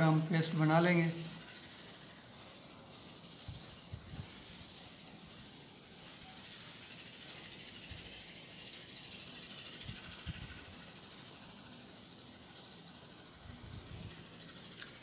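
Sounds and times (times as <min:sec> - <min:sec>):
baking soda fizzing: 0:00.0 - 0:15.0.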